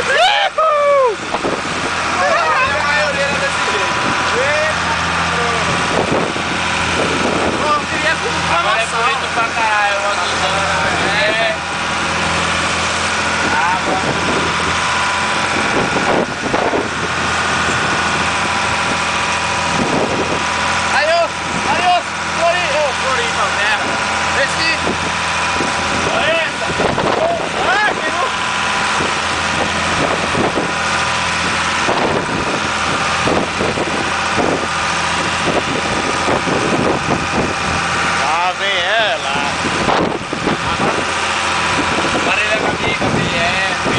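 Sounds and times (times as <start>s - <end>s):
engine drone in cabin: 0.0s - 43.9s.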